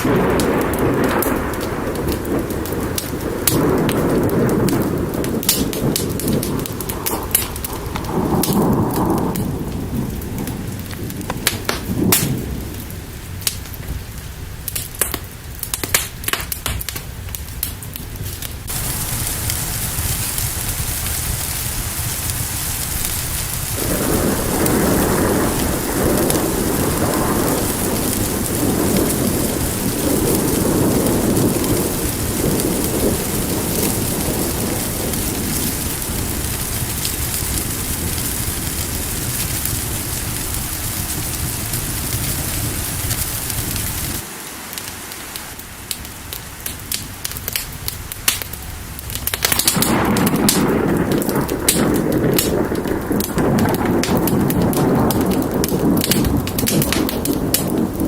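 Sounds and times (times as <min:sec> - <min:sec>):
rolling thunder: 0:00.0 - 0:44.3, 0:45.5 - 0:58.0
heavy rain: 0:00.0 - 0:58.0
sharp crackles over low rumble: 0:00.0 - 0:58.0.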